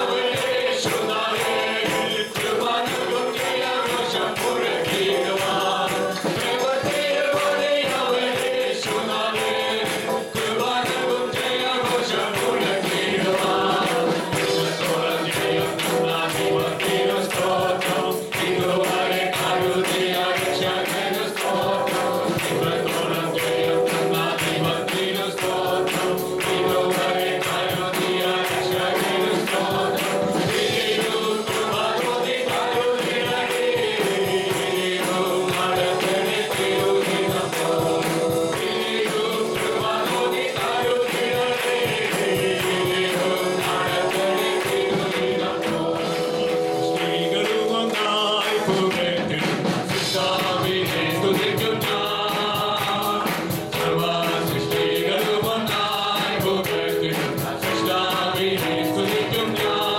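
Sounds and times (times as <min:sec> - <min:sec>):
band playing a driving beat: 0:00.0 - 0:59.9
group of voices singing: 0:00.0 - 0:59.9.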